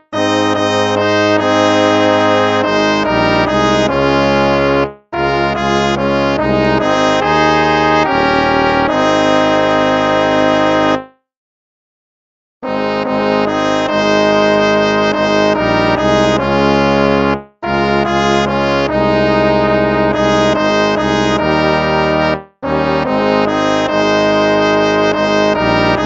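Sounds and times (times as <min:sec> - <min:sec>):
brass-like hymn chords: 0:00.0 - 0:11.1, 0:12.7 - 0:26.0.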